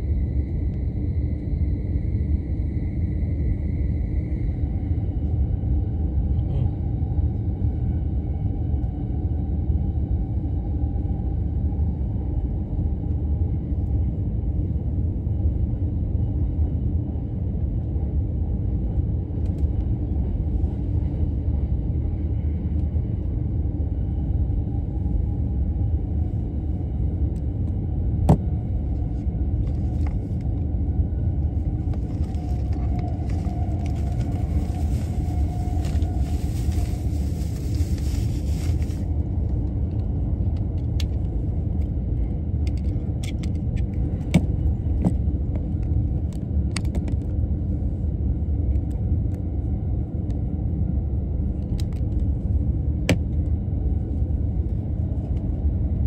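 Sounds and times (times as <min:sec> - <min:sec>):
train rumbling at speed: 0:00.0 - 0:56.0.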